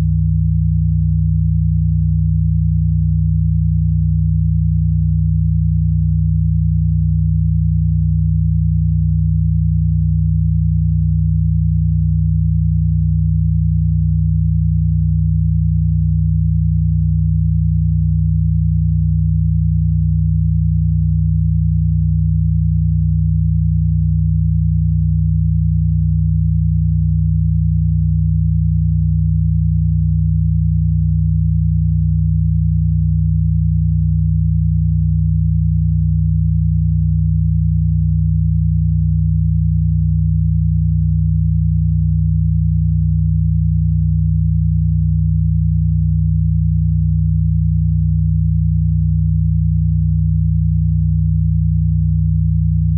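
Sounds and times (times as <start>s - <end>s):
low electronic sine tone: 0.0s - 52.9s.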